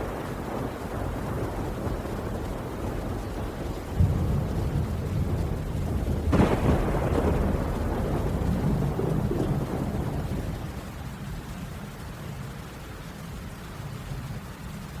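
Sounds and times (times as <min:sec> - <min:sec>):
thunder crack and rumble: 0:00.0 - 0:12.6
steady rain: 0:00.0 - 0:15.0.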